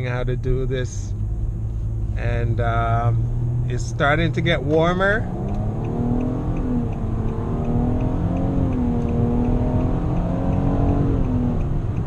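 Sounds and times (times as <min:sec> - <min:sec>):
car engine droning: 0:00.0 - 0:12.0
road and tyre rumble: 0:00.0 - 0:12.0.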